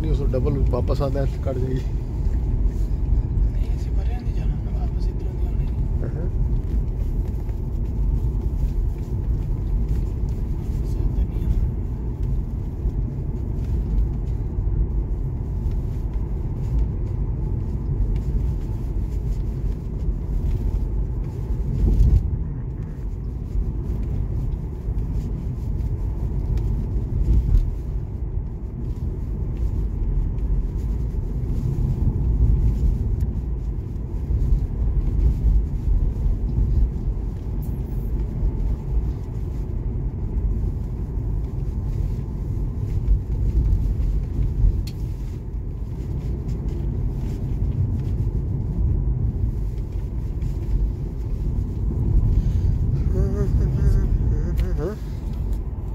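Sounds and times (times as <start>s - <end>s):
car road rumble: 0.0s - 55.9s.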